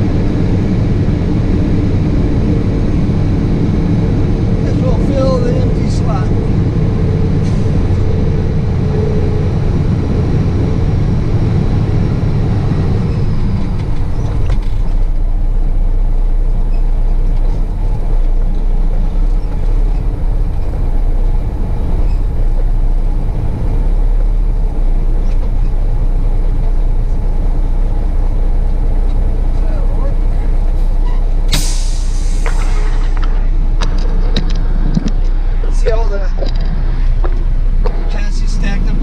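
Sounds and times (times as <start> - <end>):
heavy truck engine running: 0.0 - 39.0.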